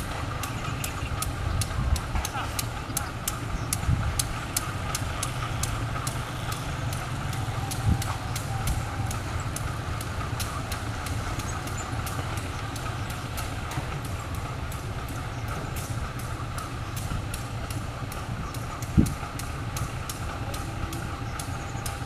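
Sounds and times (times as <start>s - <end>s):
locomotive engine droning: 0.0s - 22.0s.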